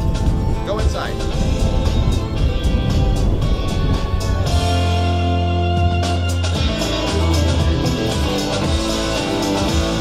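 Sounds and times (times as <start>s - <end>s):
guitar music: 0.0s - 10.0s.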